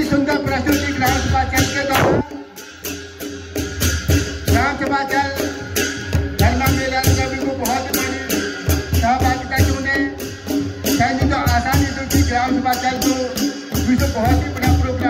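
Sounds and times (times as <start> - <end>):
drums beating: 0.0 - 15.0
rattling percussion: 0.0 - 15.0.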